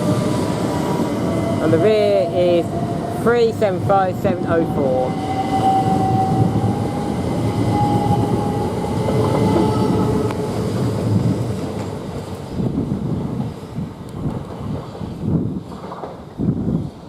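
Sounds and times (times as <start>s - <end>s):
electric train whine: 0.0s - 14.2s
rail clicks: 0.0s - 16.4s
train wheels rumbling on rails: 0.0s - 17.0s.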